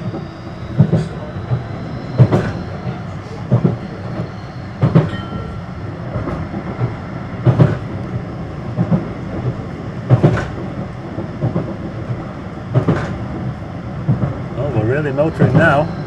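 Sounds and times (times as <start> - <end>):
tram rumble: 0.0 - 16.0
wheels clacking on track: 0.0 - 16.0.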